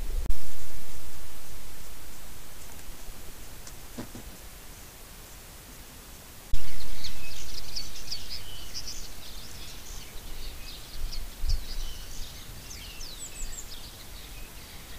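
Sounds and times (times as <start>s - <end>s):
small birds twittering: 2.2s - 14.9s.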